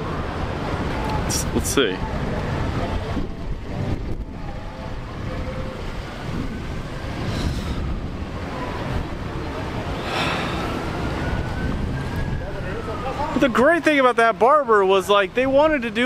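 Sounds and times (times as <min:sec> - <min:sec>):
wind buffeting microphone: 0:00.0 - 0:13.6
street traffic: 0:00.0 - 0:16.0.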